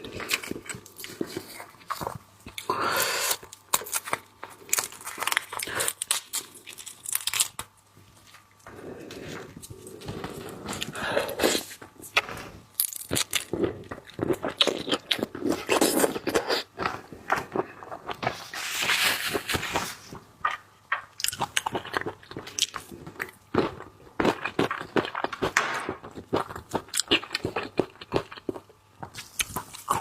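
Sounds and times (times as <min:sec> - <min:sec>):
person eating crunching and chewing: 0:00.0 - 0:30.0.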